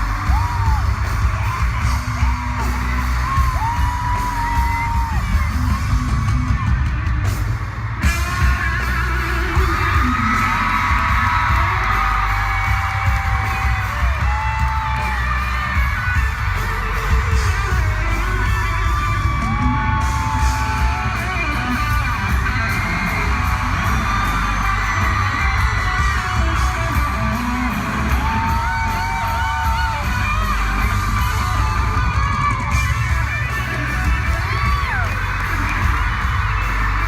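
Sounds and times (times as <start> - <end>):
fans screaming and whooping: 0.0 - 37.0
live pop-rock band: 0.0 - 37.0.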